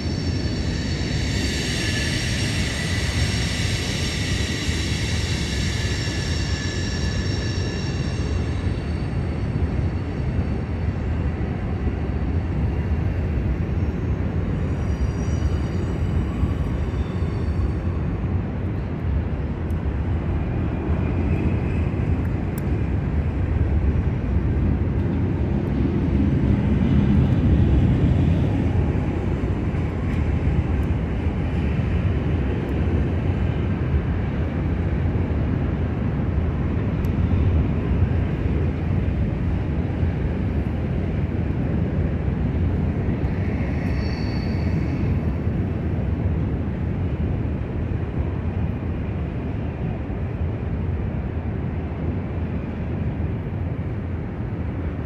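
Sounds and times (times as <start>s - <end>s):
distant train rumble: 0.0s - 55.0s.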